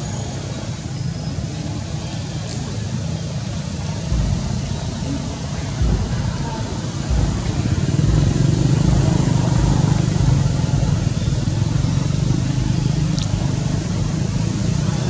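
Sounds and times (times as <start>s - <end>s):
vehicle engine running: 1.7s - 15.0s.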